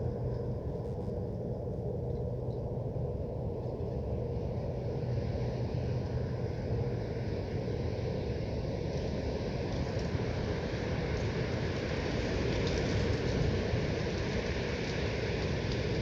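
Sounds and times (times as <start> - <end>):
foundry machinery hum and rumble: 0.0 - 16.0.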